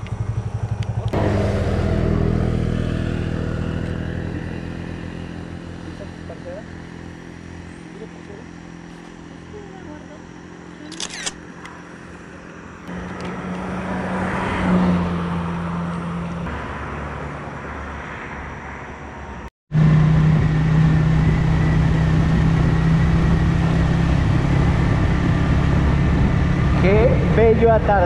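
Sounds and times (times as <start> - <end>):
road noise: 0.0 - 28.0
vehicle engine hum: 0.0 - 28.0.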